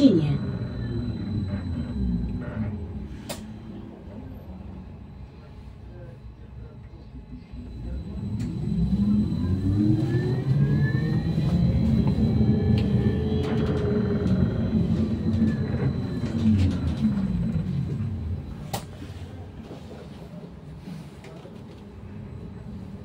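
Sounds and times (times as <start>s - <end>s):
bus rumble: 0.0s - 23.0s.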